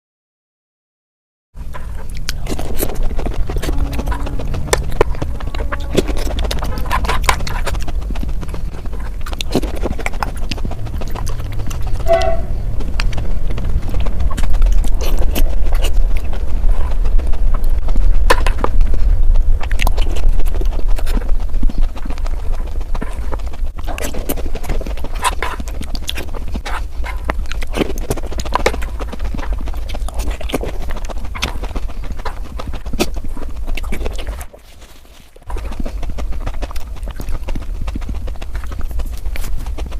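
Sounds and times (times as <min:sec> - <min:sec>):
low rumble: 0:01.6 - 0:39.9
rapid crunching and chewing: 0:01.6 - 0:39.9.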